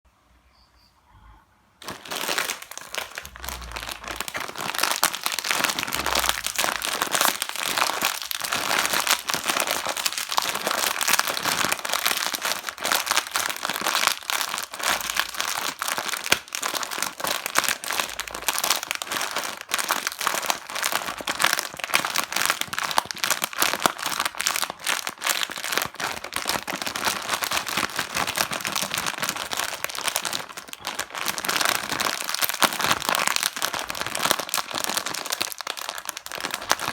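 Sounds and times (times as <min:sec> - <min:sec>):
plastic wrappers crinkling: 0:01.8 - 0:36.9.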